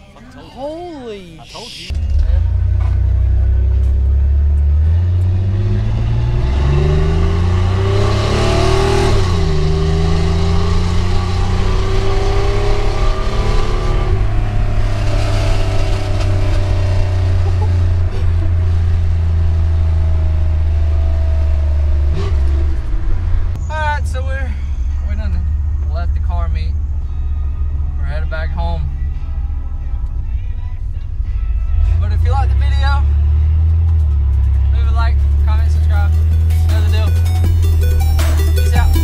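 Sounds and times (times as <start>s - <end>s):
steady low drone: 1.9s - 39.0s
vehicle engine accelerating: 1.9s - 39.0s.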